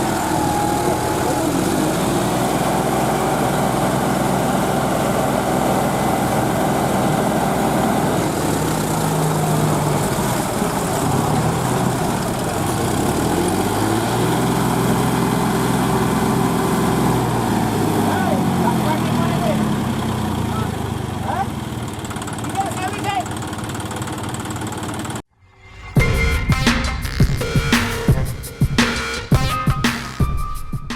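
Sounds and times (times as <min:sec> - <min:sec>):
tractor diesel engine running: 0:00.0 - 0:25.3.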